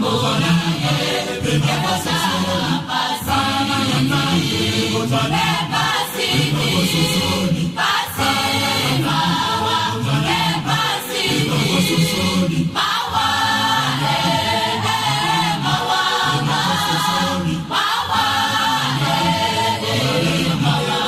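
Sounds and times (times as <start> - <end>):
gospel choir singing: 0.0 - 21.0.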